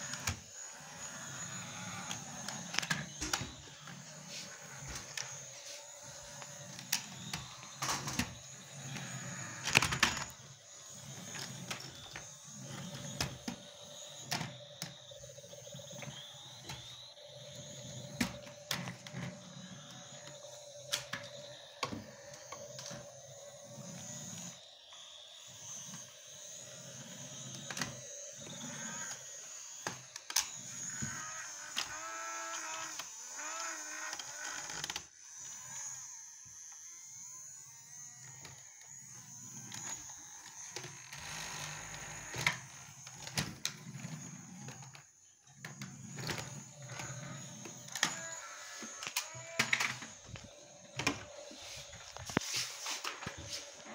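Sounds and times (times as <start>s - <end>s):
toy electric motor whirring: 0.0s - 53.9s.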